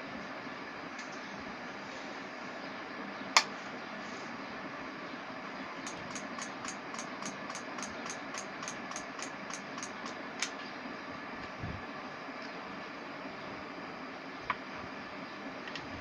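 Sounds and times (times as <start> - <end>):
constant background noise: 0.0 - 16.0.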